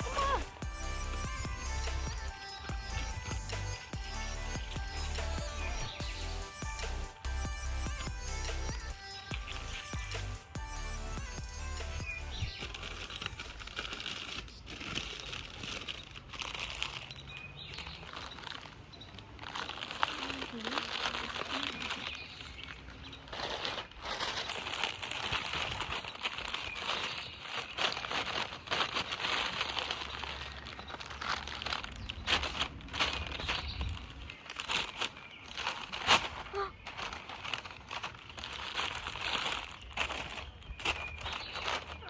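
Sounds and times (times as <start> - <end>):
flower wrapping crinkling: 0.0 - 42.0.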